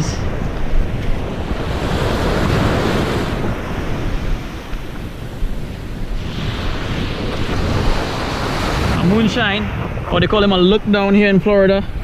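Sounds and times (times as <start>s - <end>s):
ocean surf washing onto beach: 0.0s - 12.0s
wind buffeting microphone: 0.0s - 12.0s.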